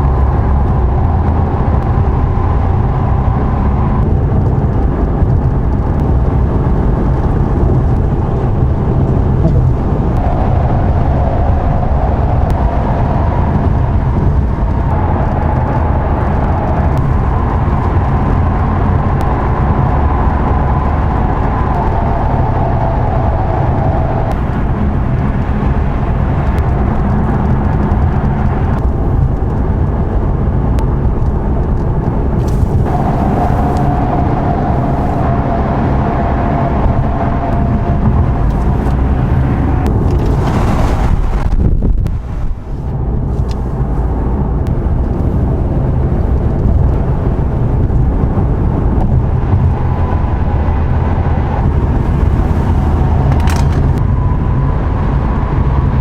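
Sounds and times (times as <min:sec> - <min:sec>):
engine rumble: 0:00.0 - 0:56.0
faint whine: 0:00.0 - 0:56.0
tyre noise on road: 0:00.0 - 0:56.0.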